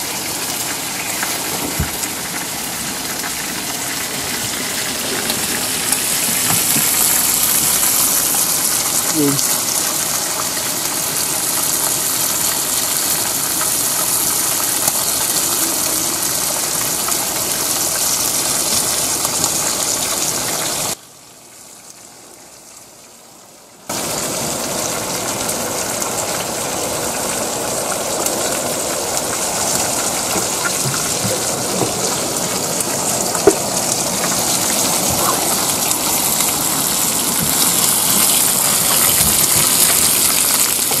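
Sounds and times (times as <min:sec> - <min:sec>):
heavy rain on water and boat: 0:00.0 - 0:21.0, 0:23.9 - 0:41.0.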